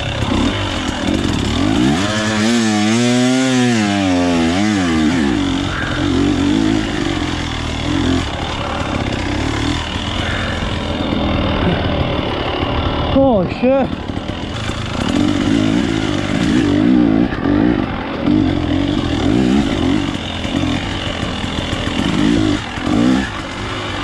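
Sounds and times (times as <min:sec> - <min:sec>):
dirt bike engine revving: 0:00.0 - 0:24.0
rough rattle: 0:00.0 - 0:24.0.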